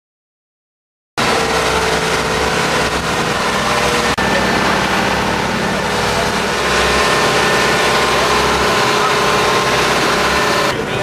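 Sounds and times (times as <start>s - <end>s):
boat engine running: 1.2s - 11.0s
water noise: 1.2s - 11.0s.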